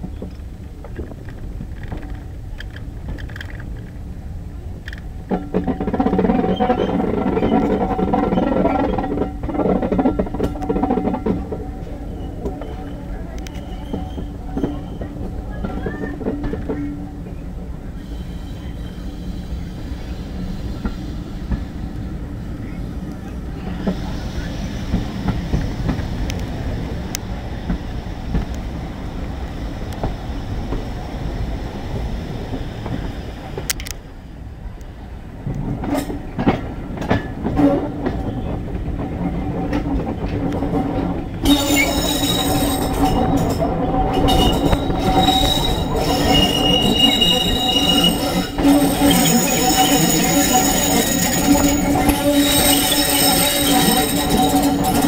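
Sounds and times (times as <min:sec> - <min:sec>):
rail joint clicks: 0:00.0 - 0:55.0
train wheels rumbling on track: 0:00.0 - 0:55.0
wheels squealing on rails: 0:04.9 - 0:35.0, 0:35.8 - 0:55.0.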